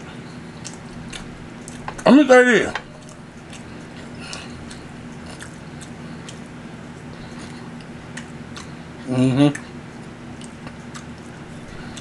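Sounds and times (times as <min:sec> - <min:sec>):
person chewing food: 0:00.0 - 0:02.1, 0:02.8 - 0:12.0
steady low hum: 0:00.0 - 0:12.0.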